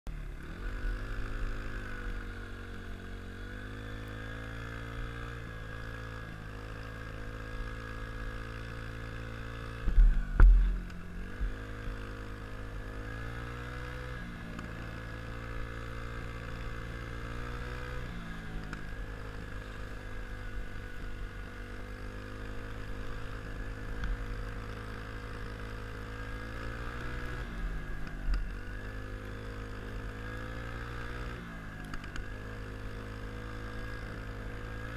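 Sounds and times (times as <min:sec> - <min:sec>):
engine running: 0:00.1 - 0:34.9.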